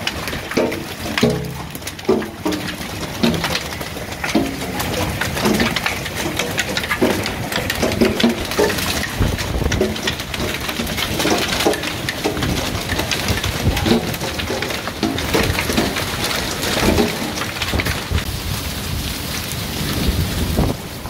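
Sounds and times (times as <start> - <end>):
hail pelting a deck: 0.0 - 21.0
wind buffeting microphone: 3.2 - 21.0.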